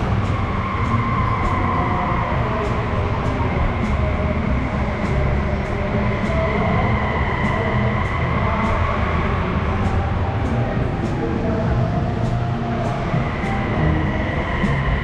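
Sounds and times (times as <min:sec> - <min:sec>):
busy hall rumble: 0:00.0 - 0:15.0.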